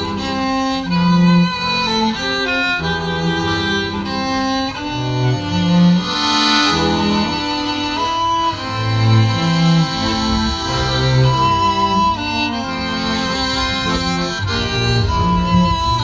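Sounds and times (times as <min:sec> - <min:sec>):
bowed string instruments playing: 0:00.0 - 0:16.0.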